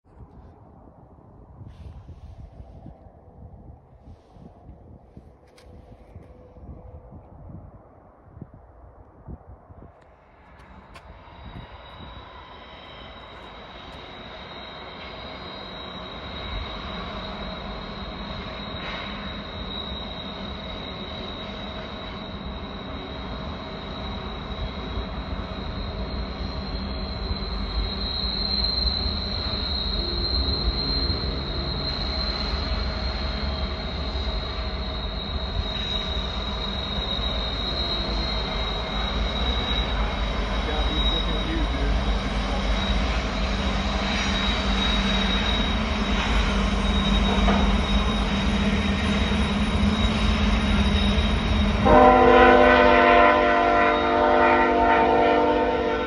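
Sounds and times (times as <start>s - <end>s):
locomotive rumble: 0.3s - 56.0s
wheel flanges squealing: 10.2s - 56.0s.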